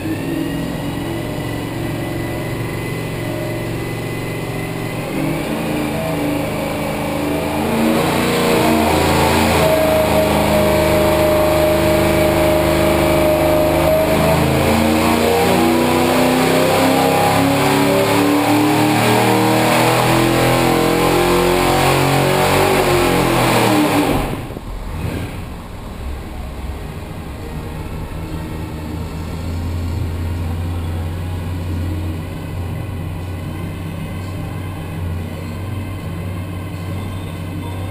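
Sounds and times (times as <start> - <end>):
car engine revving on a dyno: 0.0 - 36.7.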